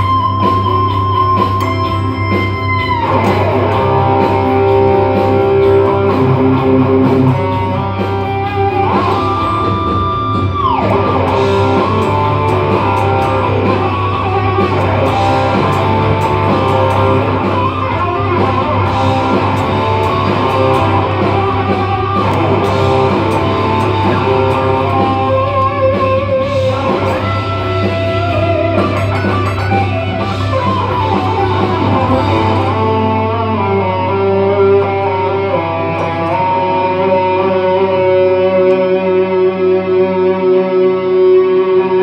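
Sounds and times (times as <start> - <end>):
electric guitar music: 0.0 - 42.0.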